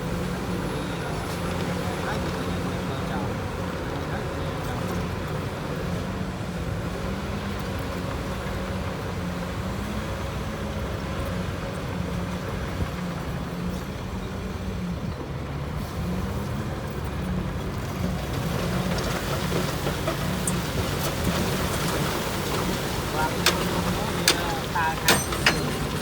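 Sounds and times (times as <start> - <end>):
heavy machinery engine running: 0.0 - 26.0.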